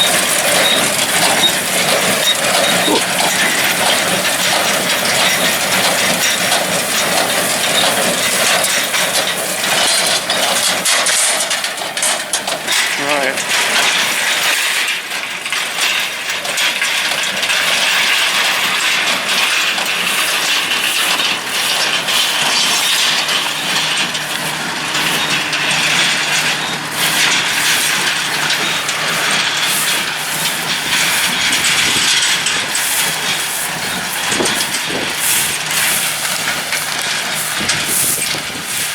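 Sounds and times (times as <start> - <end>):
baler clattering: 0.0 - 14.5, 16.6 - 38.9
tractor engine hum: 0.0 - 14.6, 16.0 - 38.9.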